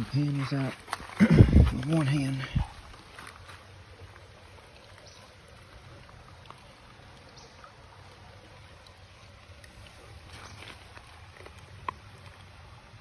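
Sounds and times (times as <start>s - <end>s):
faint running water: 0.0s - 13.0s
light water splashes: 0.1s - 13.0s.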